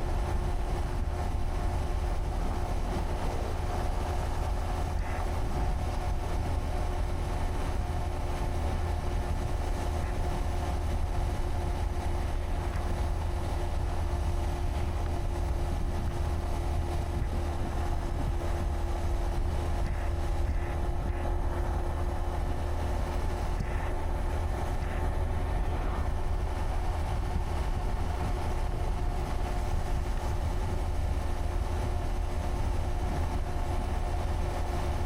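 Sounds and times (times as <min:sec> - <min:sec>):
motorcycle engine running: 0:00.0 - 0:35.0
wind rumble on microphone: 0:00.0 - 0:35.0.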